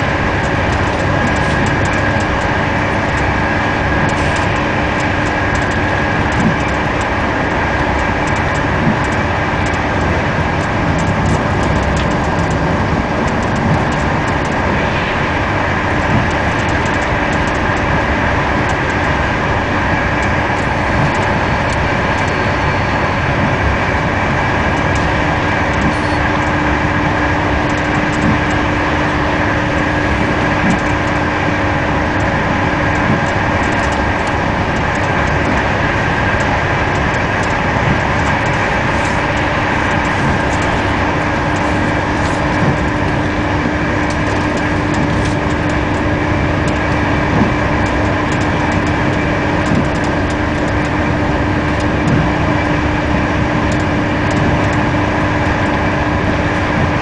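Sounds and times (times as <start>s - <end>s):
constant hum: 0.0s - 57.0s
high whine: 0.0s - 57.0s
train carriage rolling rumble: 0.0s - 57.0s.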